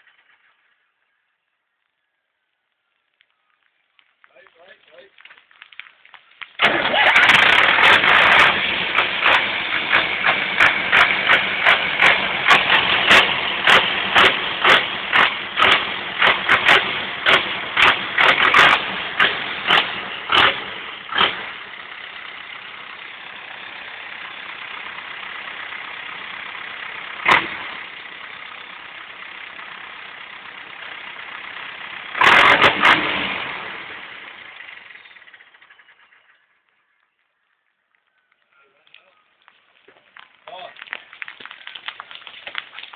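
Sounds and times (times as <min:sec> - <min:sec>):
tractor diesel engine running: 0:00.0 - 0:01.8, 0:04.7 - 0:42.9.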